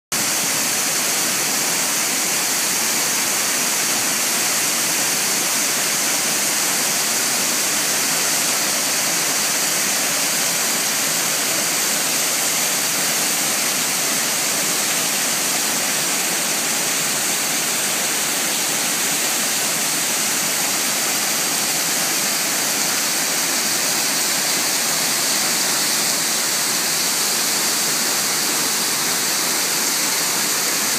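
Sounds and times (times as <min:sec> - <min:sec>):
waterfall rushing: 0:00.2 - 0:30.9.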